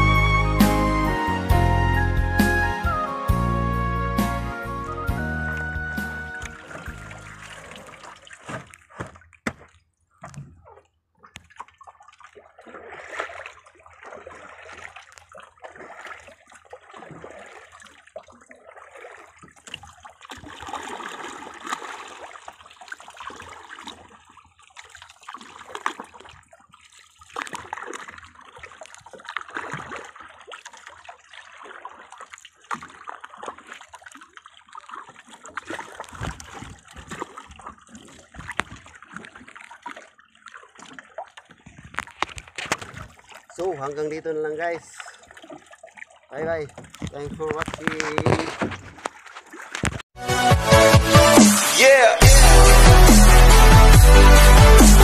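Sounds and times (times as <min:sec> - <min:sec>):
water splashing against boat hull: 0:05.2 - 0:50.2.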